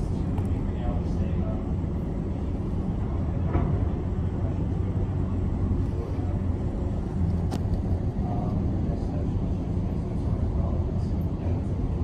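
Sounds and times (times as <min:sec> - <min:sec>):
muffled demolition machinery engine rumble: 0:00.0 - 0:12.0.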